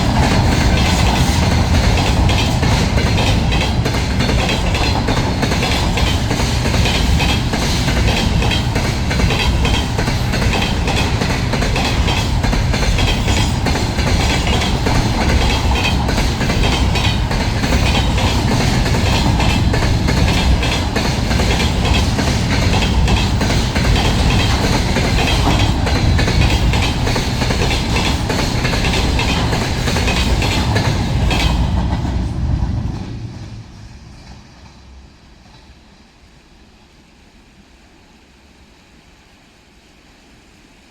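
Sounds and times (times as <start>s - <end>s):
train wheels clattering over bridge: 0.0s - 36.1s.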